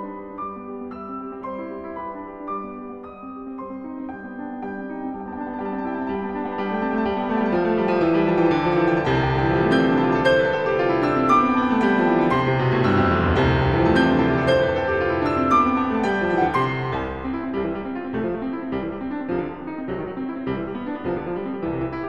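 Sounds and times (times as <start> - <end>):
piano background music: 0.0 - 22.0.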